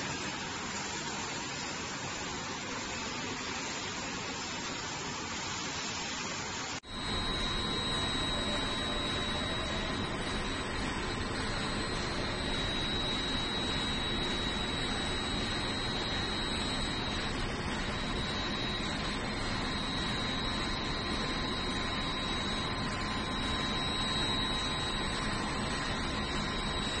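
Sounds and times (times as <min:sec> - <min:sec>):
high-pitched whine: 0:00.0 - 0:27.0
steady hum and hiss: 0:00.0 - 0:27.0.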